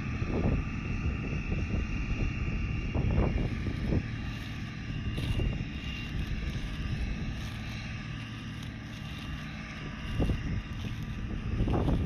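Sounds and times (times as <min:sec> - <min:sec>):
machine hum with high whine: 0:00.0 - 0:12.0
wind gusting on microphone: 0:00.0 - 0:12.0.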